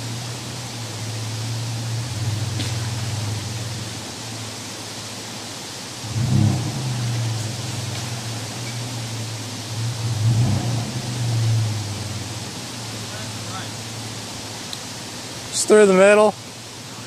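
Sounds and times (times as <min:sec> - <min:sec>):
engine low hum: 0:00.0 - 0:17.0
steady hiss: 0:00.0 - 0:17.0.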